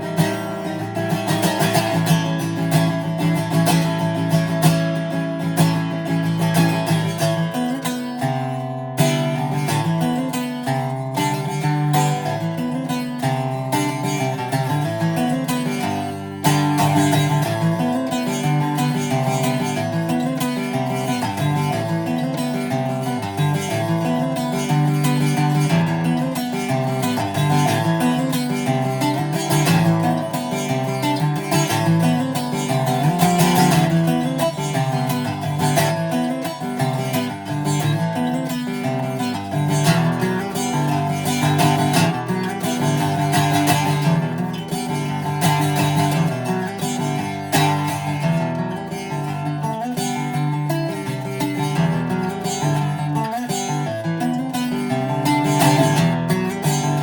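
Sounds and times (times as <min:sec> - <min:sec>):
acoustic guitar strumming and picking: 0:00.0 - 0:57.0.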